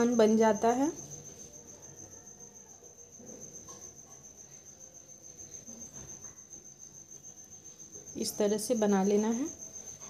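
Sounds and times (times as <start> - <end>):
cricket trilling: 0.0 - 10.0.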